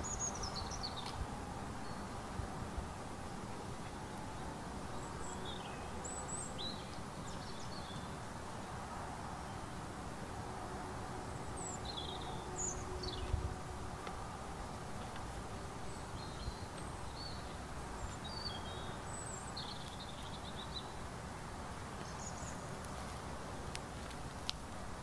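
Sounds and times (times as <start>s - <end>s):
small birds chirping: 0.0s - 2.3s, 2.9s - 8.8s, 11.2s - 25.0s.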